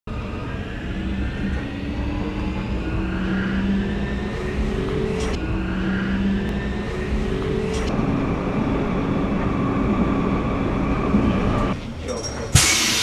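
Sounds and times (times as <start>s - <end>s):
electric traction motor whine: 0.1s - 11.8s
train wheels rumbling on track: 0.1s - 11.8s.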